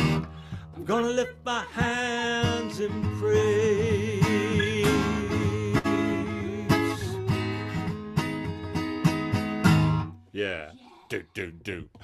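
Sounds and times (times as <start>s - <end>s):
acoustic guitar strumming: 0.0s - 10.3s.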